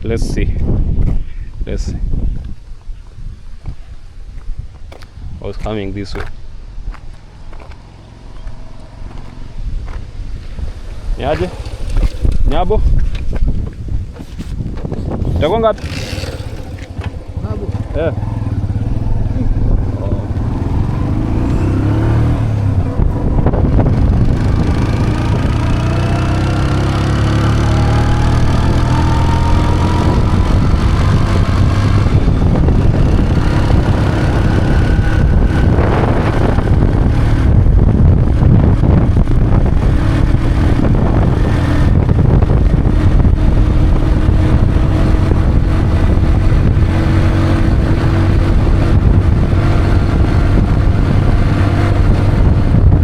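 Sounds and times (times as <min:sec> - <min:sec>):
motorcycle engine accelerating: 0:06.7 - 0:53.0.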